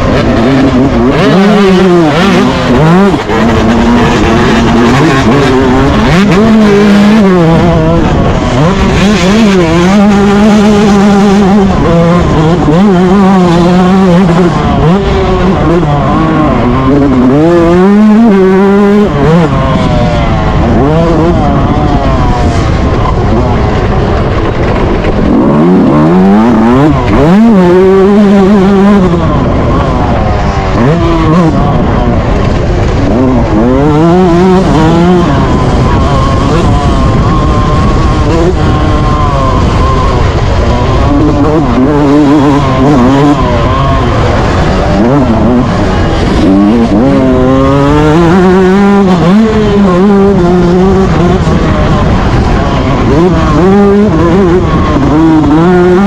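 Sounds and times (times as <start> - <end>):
constant rushing noise: 0.0 - 56.0
two-stroke engine accelerating: 0.0 - 56.0.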